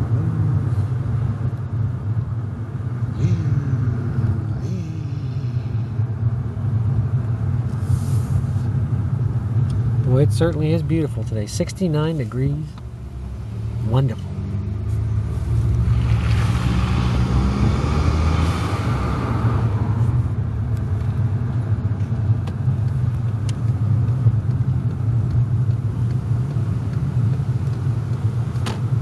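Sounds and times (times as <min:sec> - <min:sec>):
car engine drone from inside: 0:00.0 - 0:29.0.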